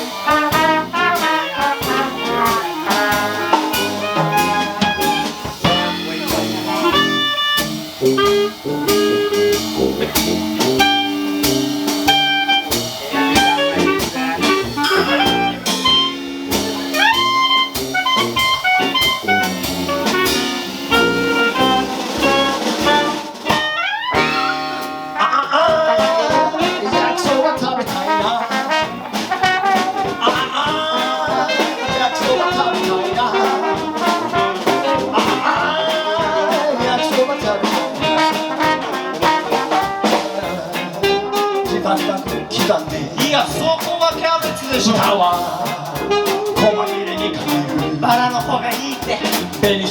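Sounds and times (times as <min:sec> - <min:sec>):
dixieland jazz band playing: 0:00.0 - 0:49.9.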